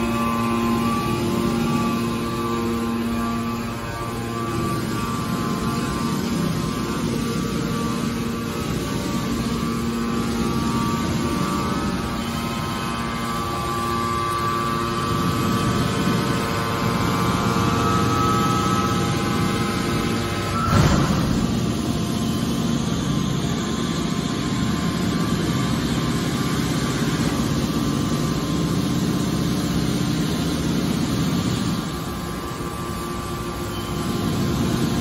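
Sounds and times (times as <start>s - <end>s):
hydraulic baler power unit humming: 0.0s - 35.0s.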